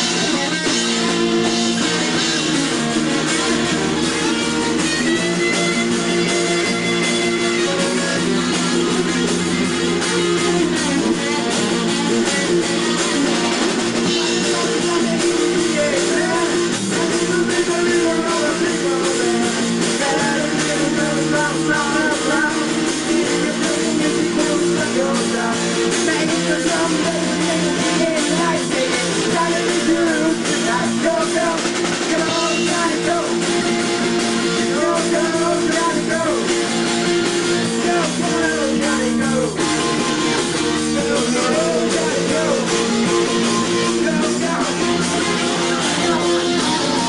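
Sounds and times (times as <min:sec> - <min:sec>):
live band with strummed guitars: 0:00.0 - 0:47.0.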